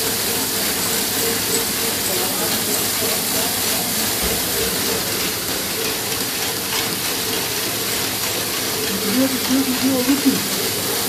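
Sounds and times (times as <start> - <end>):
machinery hissing and whirring: 0.0 - 11.0.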